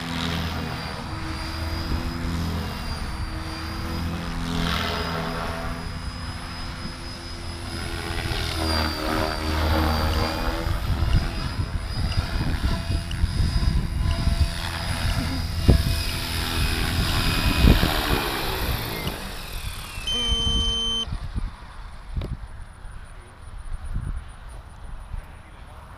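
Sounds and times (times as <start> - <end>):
rc helicopter rotor whirring: 0.0 - 23.9.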